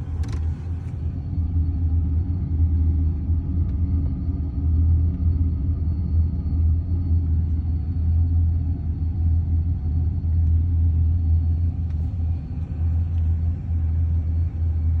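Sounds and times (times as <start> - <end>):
low car hum: 0.0 - 15.0.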